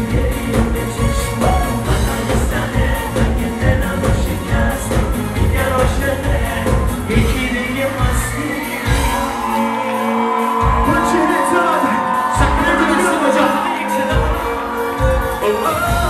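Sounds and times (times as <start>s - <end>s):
live pop band with singing: 0.0s - 16.0s
crowd whooping: 0.2s - 16.0s.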